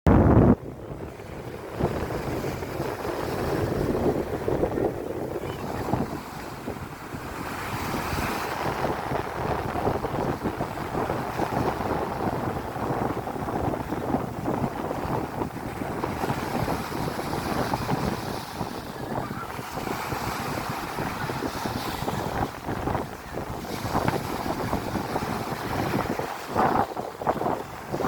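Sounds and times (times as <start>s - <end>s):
sea surf: 0.1s - 28.0s
wind buffeting microphone: 0.1s - 28.0s.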